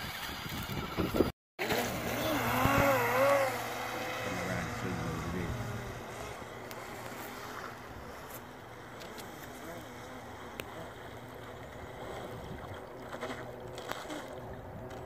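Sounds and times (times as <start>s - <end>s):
water spray from boat hull: 0.0s - 15.0s
toy speedboat electric motor: 0.5s - 15.0s.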